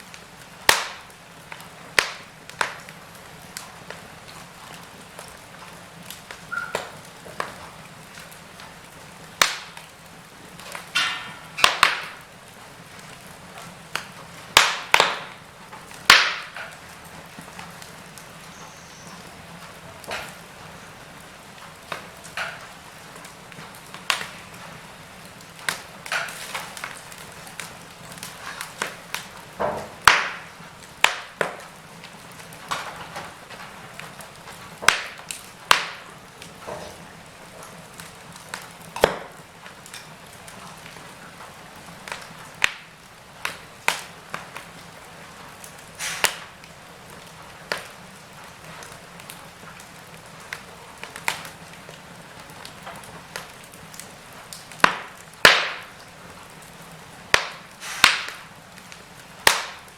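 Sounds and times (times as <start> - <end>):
hiss of flames: 0.0 - 59.9
wood fire crackling and popping: 0.0 - 59.9.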